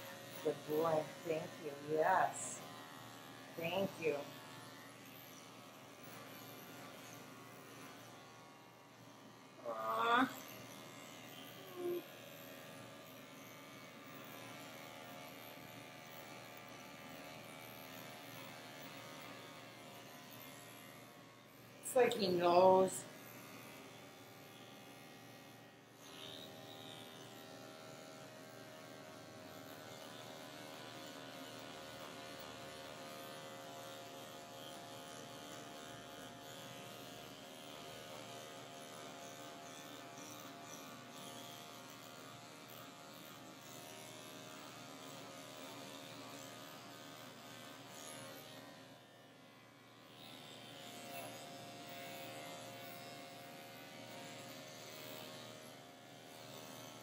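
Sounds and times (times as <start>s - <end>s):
electric dog clipper humming: 0.0s - 57.0s.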